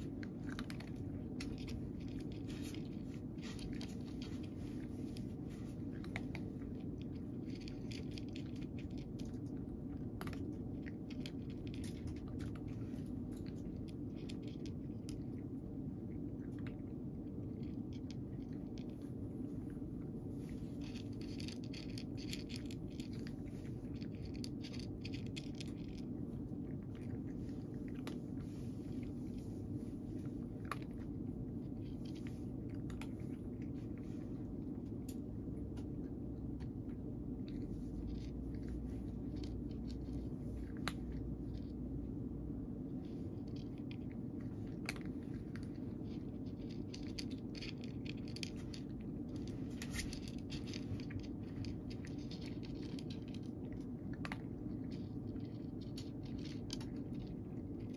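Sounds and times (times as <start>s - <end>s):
cat crunching dry kibble: 0.0s - 57.9s
low background hum: 0.0s - 57.9s.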